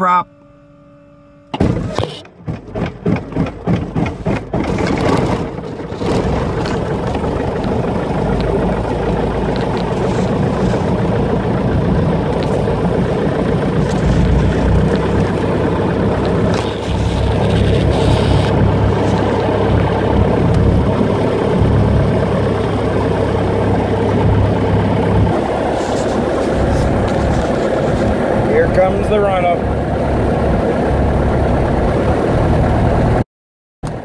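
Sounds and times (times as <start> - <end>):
aircraft engine starting: 0.0 - 33.2.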